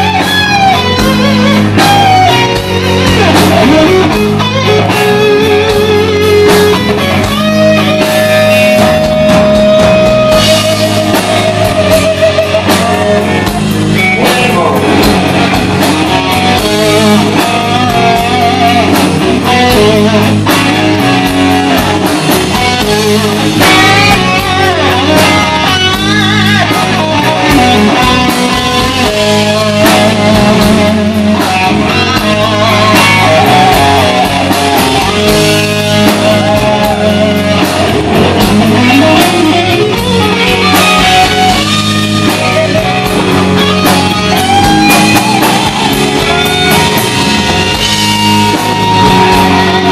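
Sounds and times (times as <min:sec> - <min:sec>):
bass guitar: 0:00.0 - 0:49.9
drum kit: 0:00.0 - 0:49.9
electric guitar lead: 0:00.0 - 0:49.9.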